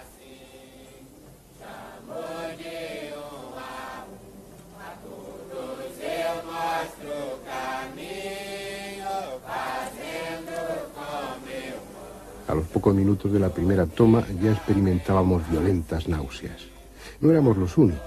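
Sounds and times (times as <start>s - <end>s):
congregation singing a hymn: 0.0s - 18.0s.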